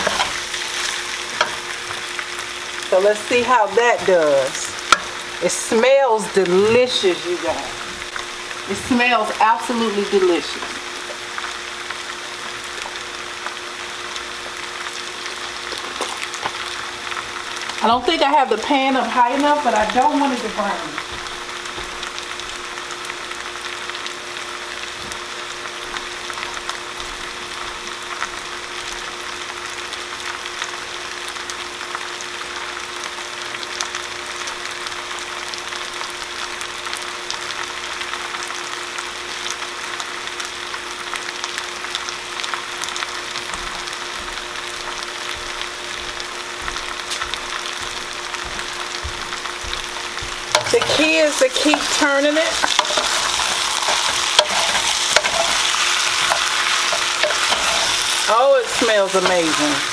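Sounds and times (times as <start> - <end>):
meat sizzling in a pan: 0.0 - 59.9.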